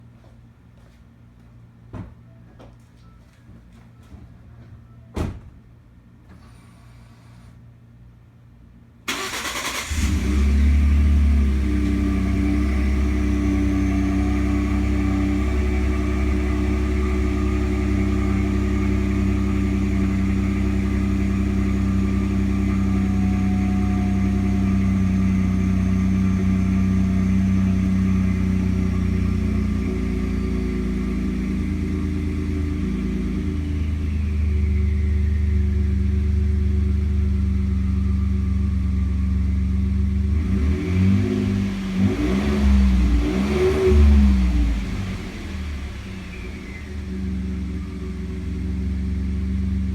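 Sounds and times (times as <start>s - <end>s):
truck engine idling and revving: 9.1s - 49.9s.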